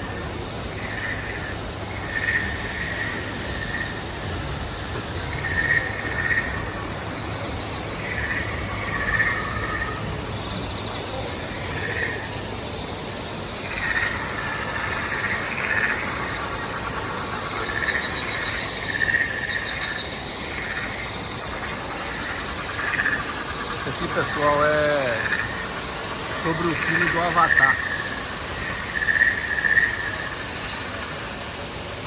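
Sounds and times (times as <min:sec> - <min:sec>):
chirps and trills: 0:00.0 - 0:31.4.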